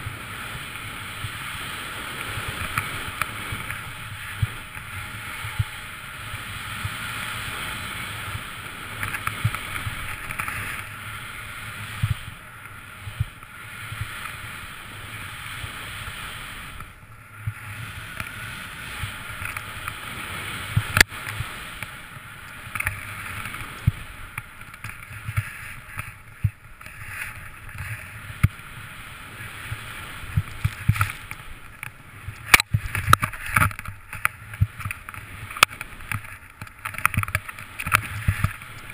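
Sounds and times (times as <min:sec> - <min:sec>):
snowboard rushing through powder: 0:00.0 - 0:38.9.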